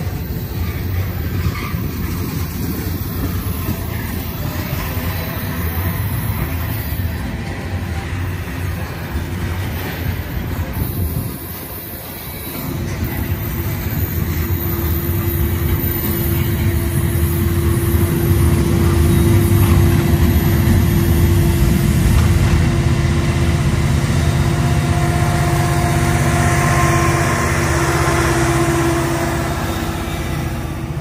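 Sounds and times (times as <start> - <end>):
diesel locomotive engine droning: 0.0 - 31.0
freight train cars rumbling past: 0.0 - 31.0.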